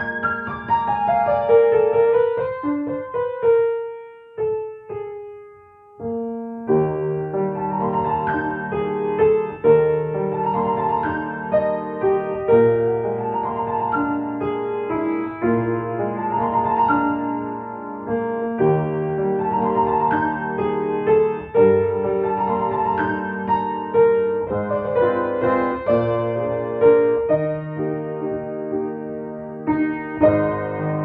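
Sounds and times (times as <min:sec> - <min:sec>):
solo piano melody: 0:00.0 - 0:31.0.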